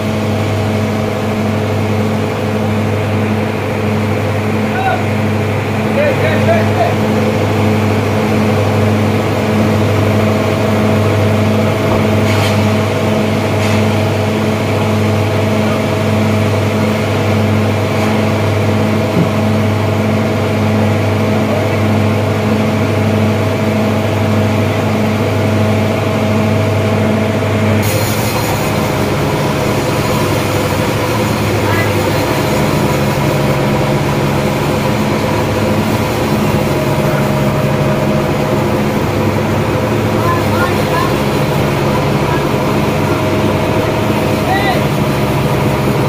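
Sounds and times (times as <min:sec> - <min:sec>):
stationary engine humming: 0:00.0 - 0:46.0.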